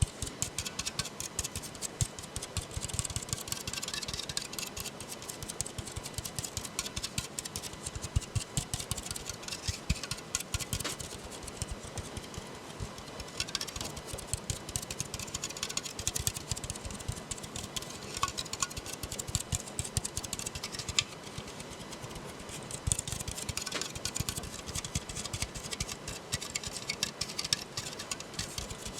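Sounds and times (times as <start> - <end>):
fingers tapping on a can: 0.0 - 28.9.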